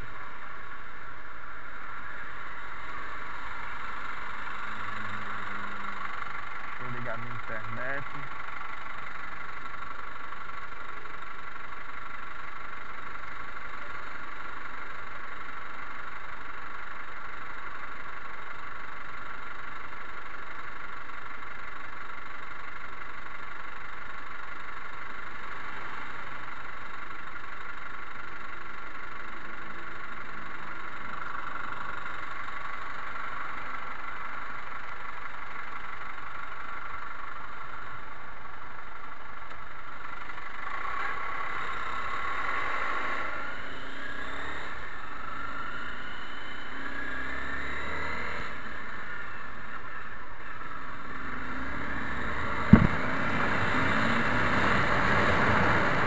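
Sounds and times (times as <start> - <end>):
motorcycle engine idling: 0.0 - 47.5, 48.1 - 53.7.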